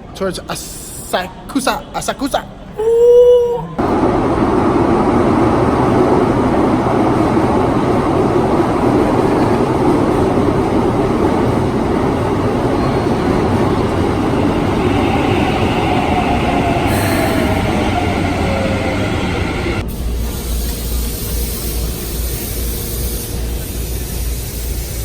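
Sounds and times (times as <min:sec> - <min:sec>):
train rumbling on track: 0:03.8 - 0:25.0.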